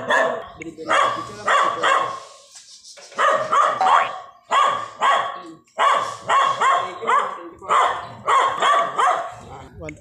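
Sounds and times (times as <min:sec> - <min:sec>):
dog barking: 0:00.0 - 0:02.2, 0:03.2 - 0:09.4.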